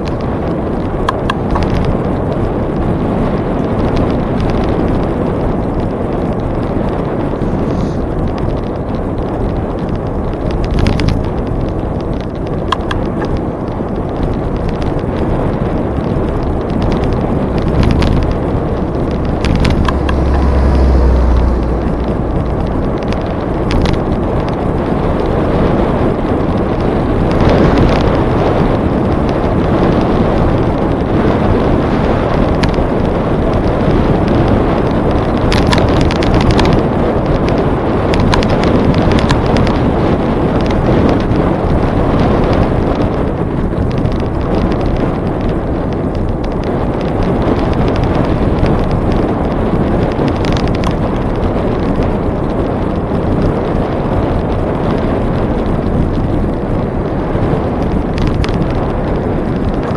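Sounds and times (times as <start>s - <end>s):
bike clicks and rattles: 0.0s - 20.8s, 21.8s - 59.9s
wind rushing over microphone: 0.0s - 59.9s.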